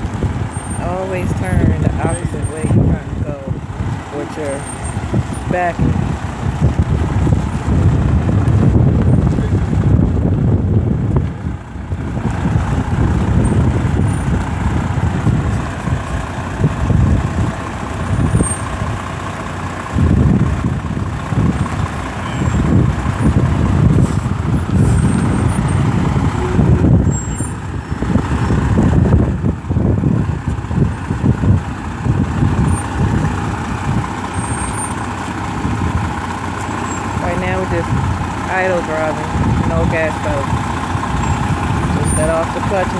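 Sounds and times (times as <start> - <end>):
truck diesel engine rumbling: 0.0 - 42.9.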